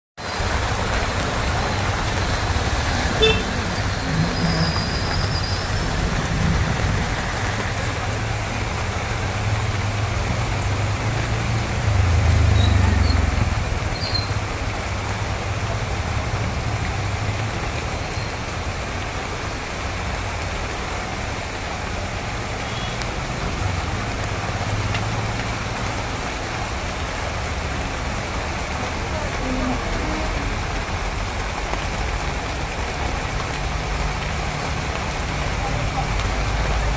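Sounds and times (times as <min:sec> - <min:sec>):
heavy rain on street: 0:00.2 - 0:36.9.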